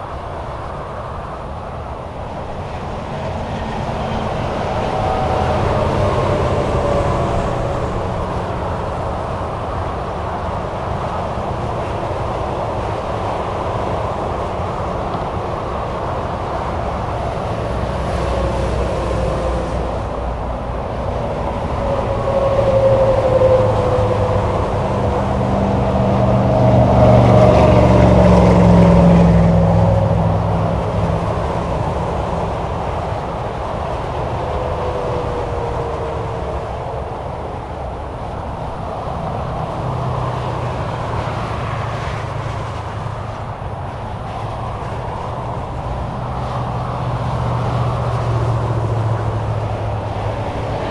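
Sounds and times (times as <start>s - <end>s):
heavy vehicle engine rumble: 0.0s - 50.9s
highway traffic: 0.0s - 50.9s.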